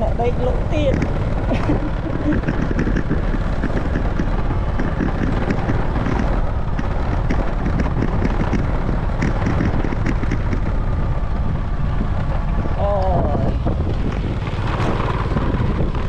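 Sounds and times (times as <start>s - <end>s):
small motorbike engine running: 0.0s - 16.0s
wind buffeting microphone: 0.0s - 16.0s.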